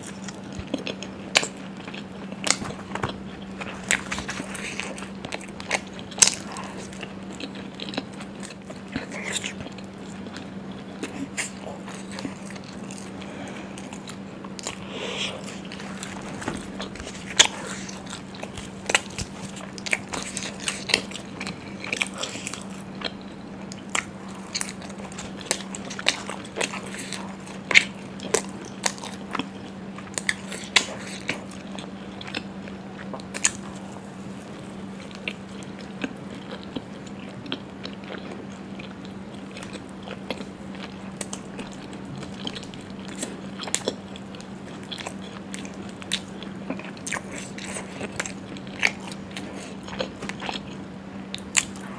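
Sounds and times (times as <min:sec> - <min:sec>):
person chewing food: 0:00.0 - 0:51.9
steady low hum: 0:00.0 - 0:51.9.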